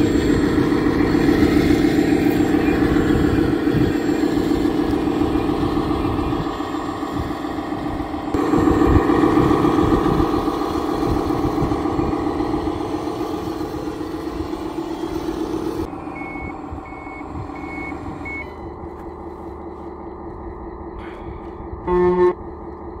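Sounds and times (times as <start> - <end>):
simulated diesel engine: 0.0 - 23.0.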